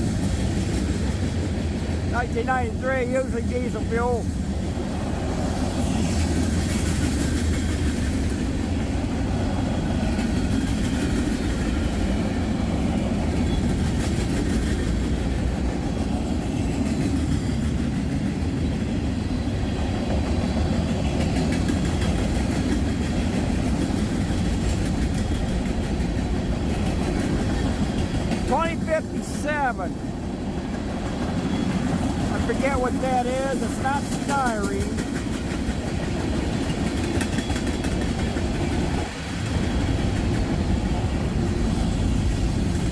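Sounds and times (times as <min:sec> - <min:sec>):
clickety-clack of rail joints: 0:00.0 - 0:42.9
steel wheels rumbling on rail: 0:00.0 - 0:42.9.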